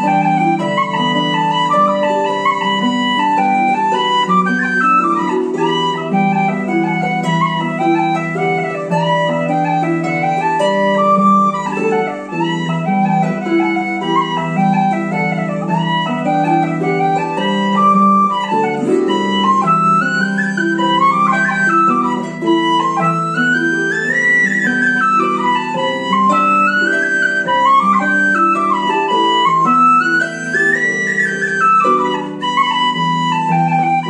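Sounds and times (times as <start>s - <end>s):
harp accompaniment: 0.0s - 34.0s
tin whistle melody: 0.0s - 34.0s.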